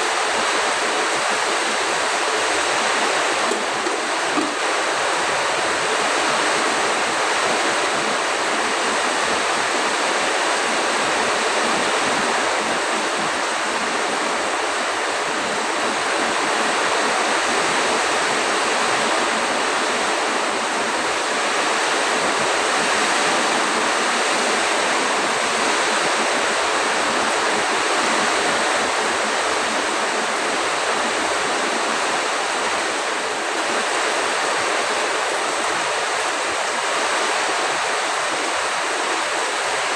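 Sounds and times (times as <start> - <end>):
heavy rain pouring: 0.0 - 39.9
wind: 0.0 - 39.9.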